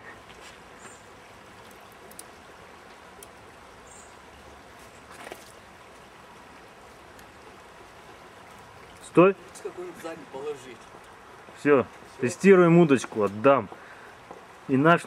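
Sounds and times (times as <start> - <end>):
flowing water hiss: 0.0 - 15.0.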